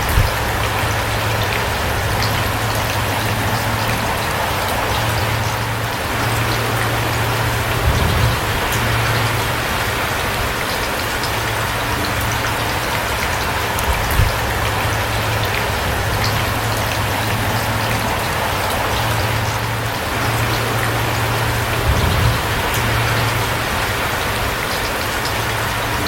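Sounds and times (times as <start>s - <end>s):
raindrops ticking: 0.0s - 26.0s
steady rain falling: 0.0s - 26.0s.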